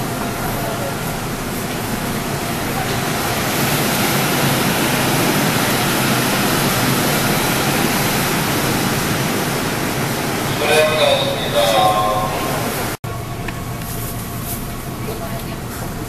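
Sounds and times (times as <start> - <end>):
subway train rushing: 0.0 - 16.0.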